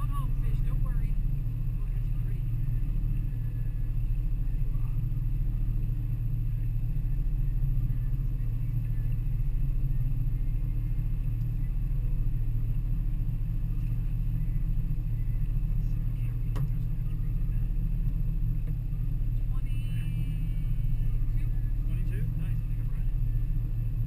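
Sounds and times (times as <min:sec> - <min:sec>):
outboard motors running: 0:00.0 - 0:24.0.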